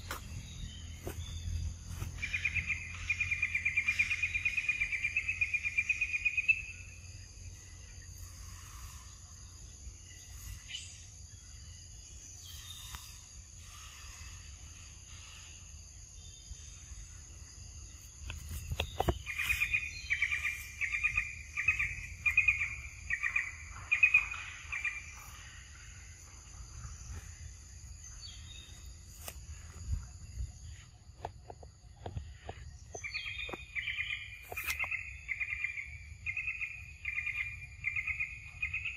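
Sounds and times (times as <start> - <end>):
bird chirping: 0.0 - 38.9
high insect drone: 0.0 - 38.9.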